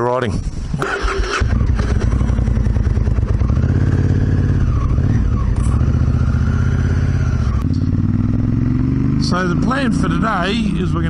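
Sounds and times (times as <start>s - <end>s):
motorcycle engine at low revs: 0.6s - 11.0s.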